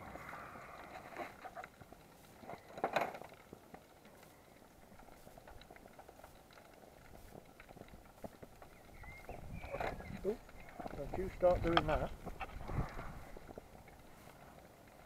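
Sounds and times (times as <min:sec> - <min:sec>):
contents simmering with crackling ticks: 0:00.0 - 0:15.0.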